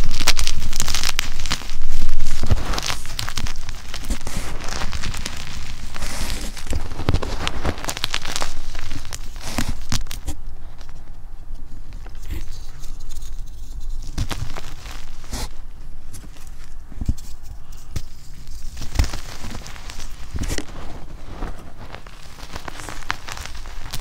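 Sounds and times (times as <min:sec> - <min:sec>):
hands crumbling chalk powder: 0:00.0 - 0:24.0.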